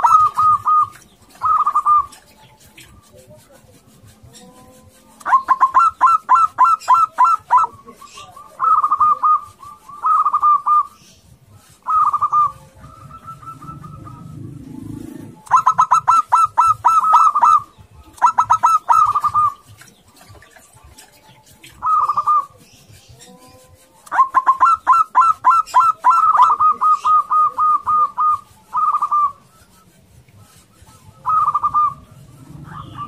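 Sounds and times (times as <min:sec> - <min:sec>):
dove cooing song: 0:00.0 - 0:33.0.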